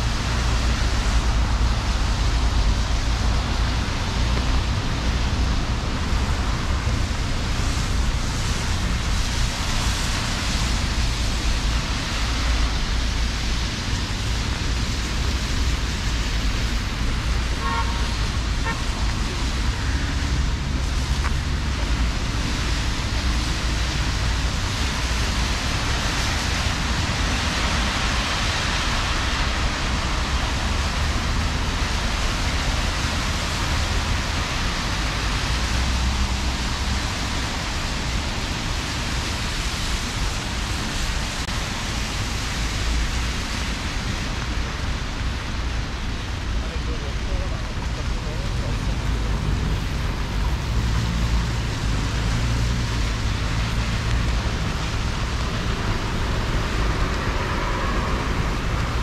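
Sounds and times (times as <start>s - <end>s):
car traffic on wet roads: 0.0s - 59.0s
heavy rain: 0.0s - 59.0s.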